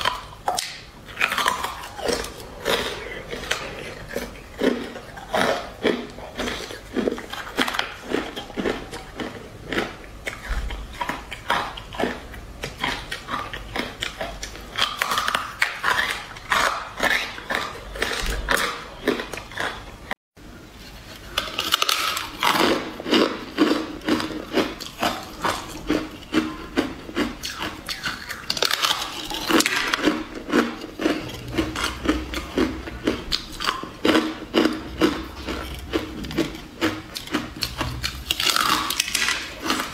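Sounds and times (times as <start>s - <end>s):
crunching and chewing ice: 0.0s - 20.2s, 21.1s - 39.9s.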